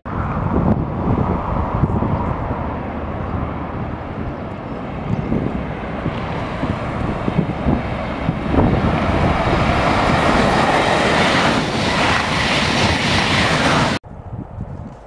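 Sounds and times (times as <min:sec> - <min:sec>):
high-speed train passing: 0:00.1 - 0:14.5.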